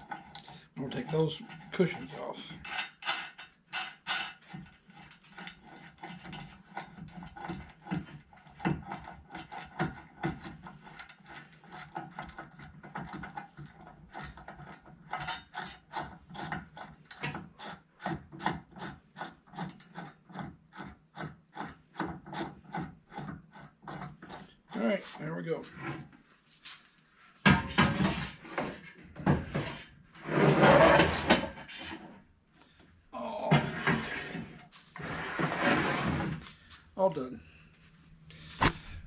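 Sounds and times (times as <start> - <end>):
scraping strokes on wood: 0.0 - 32.3, 33.5 - 36.8.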